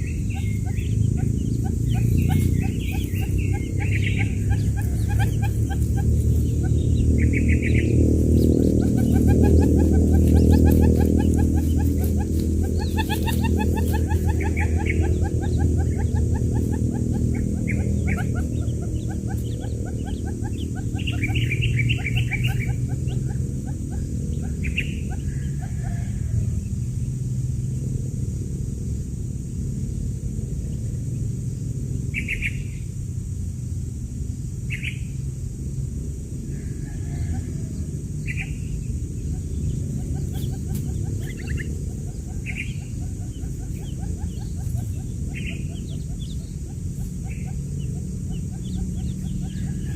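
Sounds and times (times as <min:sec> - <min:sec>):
chicks peeping: 0:00.0 - 0:26.7, 0:36.5 - 0:49.9
fast low chirps: 0:00.0 - 0:49.9
loud low rumble: 0:00.0 - 0:49.9
steady low hum: 0:00.0 - 0:49.9.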